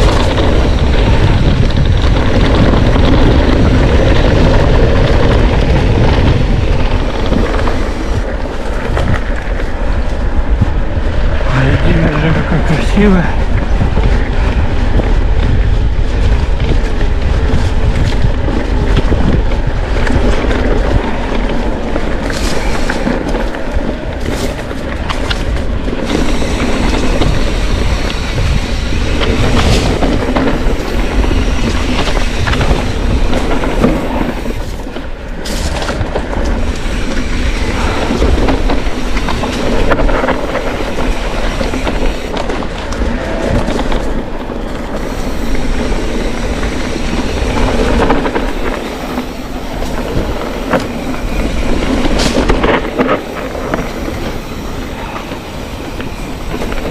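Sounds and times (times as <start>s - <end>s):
bike clattering and rattling: 0.0s - 56.9s
tyres rolling over stones: 0.0s - 56.9s.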